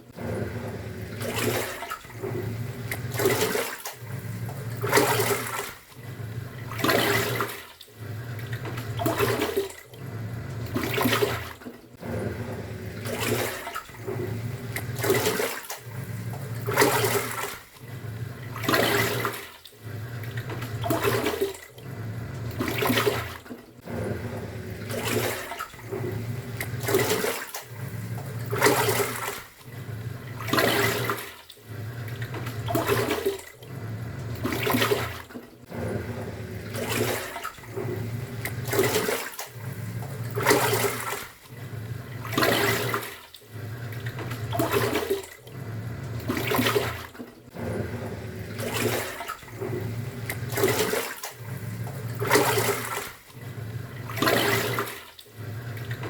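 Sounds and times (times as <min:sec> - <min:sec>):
washing machine motor hum: 0:00.0 - 0:56.0
water sloshing in washing machine: 0:00.0 - 0:56.0.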